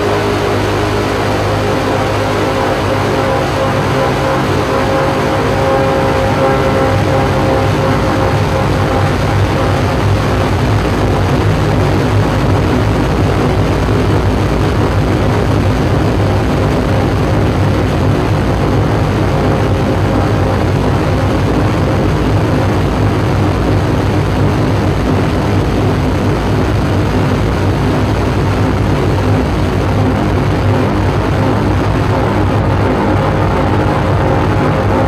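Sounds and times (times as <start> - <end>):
deep drone: 0.0 - 35.0
electronic noise through speakers: 0.0 - 35.0
held low tones: 0.0 - 35.0.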